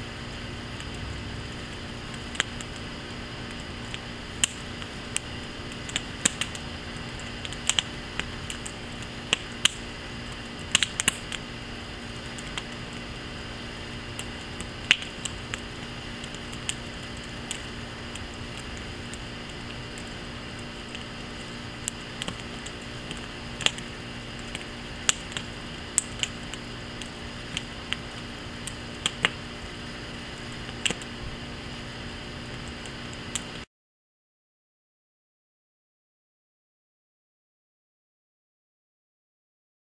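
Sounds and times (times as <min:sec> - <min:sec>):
wood fire crackling and popping: 0:00.0 - 0:33.7.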